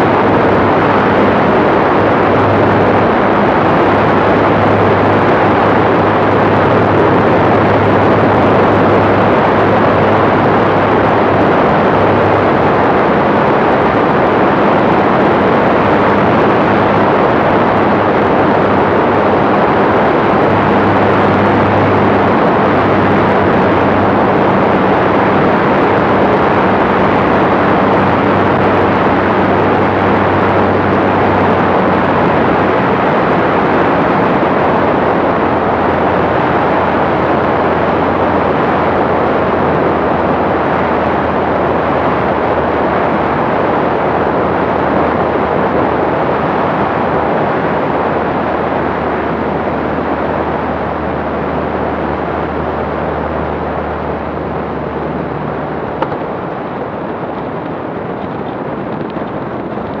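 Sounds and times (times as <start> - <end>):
airplane engine and propeller: 0.0 - 60.0
wind rushing on microphone: 0.0 - 60.0.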